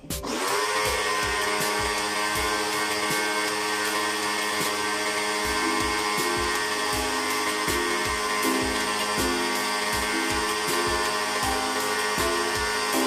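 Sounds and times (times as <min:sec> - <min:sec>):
pressure washer running: 0:00.2 - 0:13.0.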